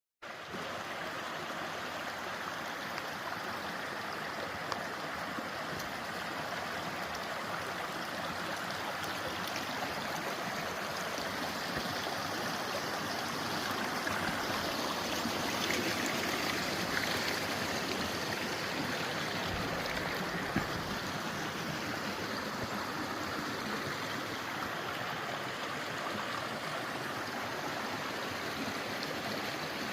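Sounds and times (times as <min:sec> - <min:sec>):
creek flowing over rocks: 0:00.2 - 0:29.9.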